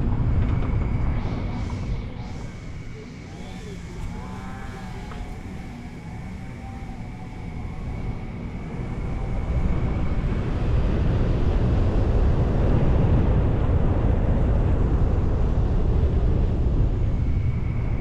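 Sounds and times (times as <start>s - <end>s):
car road and wind rumble: 0.0s - 18.0s.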